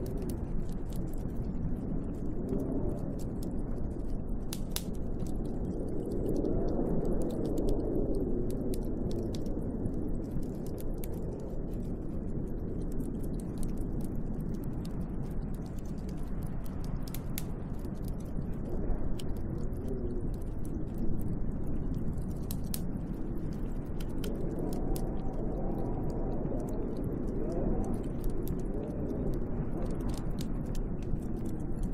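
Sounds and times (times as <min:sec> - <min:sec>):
light ticks and crackles: 0:00.0 - 0:31.9
wind blowing in gusts: 0:00.0 - 0:31.9.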